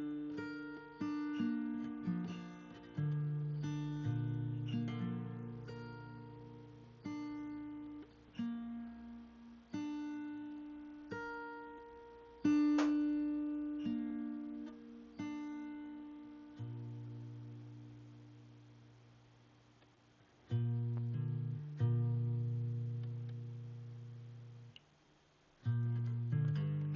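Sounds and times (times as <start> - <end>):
slow plucked guitar: 0.0 - 24.9, 25.6 - 26.9.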